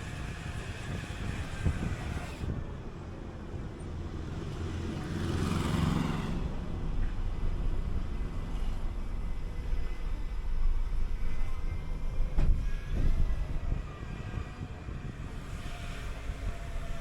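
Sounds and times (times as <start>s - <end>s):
bus engine rumble: 0.0s - 17.0s
tyre and road noise: 0.1s - 16.8s.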